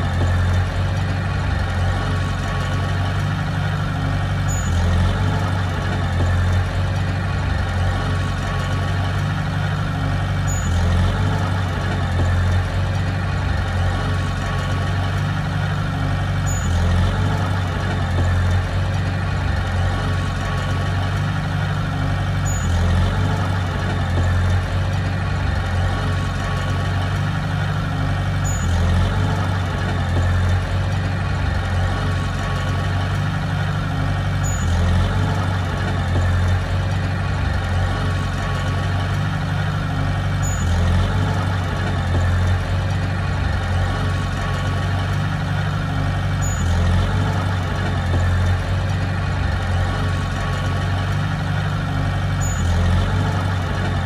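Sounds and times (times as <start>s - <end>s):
heavy diesel engine droning: 0.0s - 54.0s.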